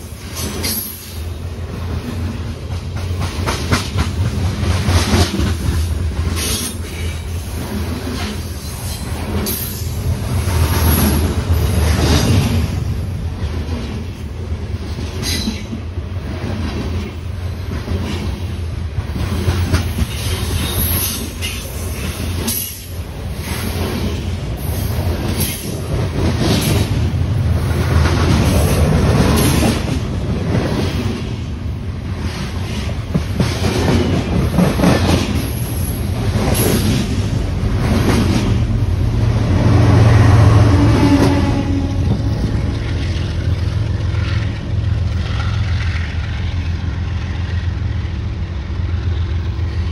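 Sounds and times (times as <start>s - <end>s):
diesel locomotive drone: 0.0s - 49.9s
train wheels rumbling on rail: 0.0s - 49.9s.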